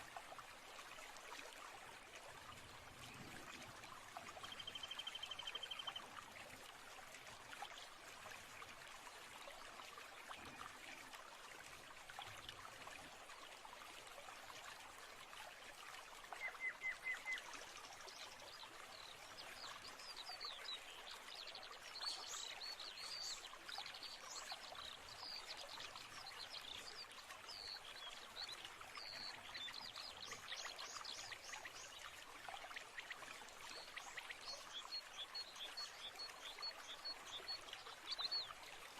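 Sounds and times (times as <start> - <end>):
stream running water: 0.0 - 38.9.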